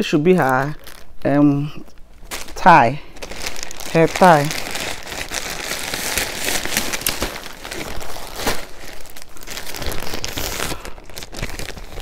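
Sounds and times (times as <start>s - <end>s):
plastic bag crinkling: 0.2s - 12.0s.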